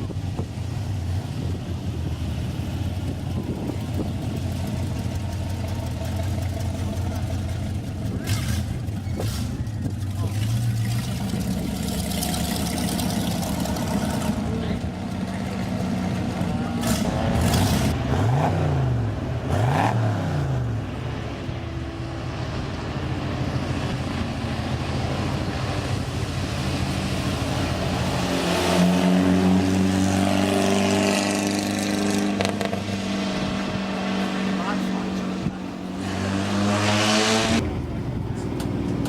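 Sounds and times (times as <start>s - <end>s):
race car engines running: 0.0s - 39.0s
engine revving: 2.5s - 21.5s, 22.2s - 39.0s.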